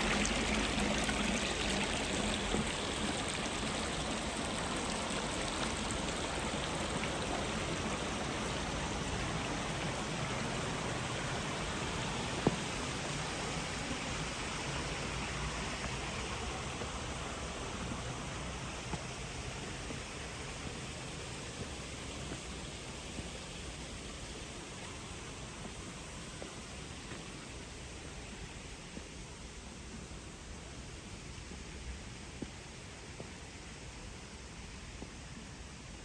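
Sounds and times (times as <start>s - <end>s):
small stream rushing: 0.0s - 36.0s.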